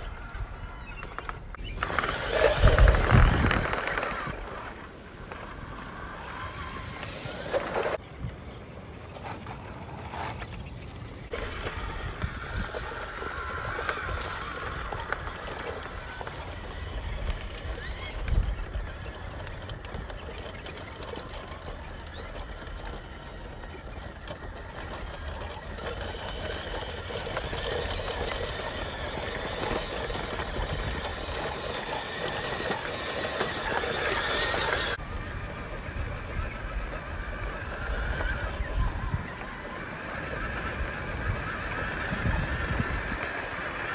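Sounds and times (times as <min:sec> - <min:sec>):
rc truck motor whirring: 0:00.0 - 0:43.9.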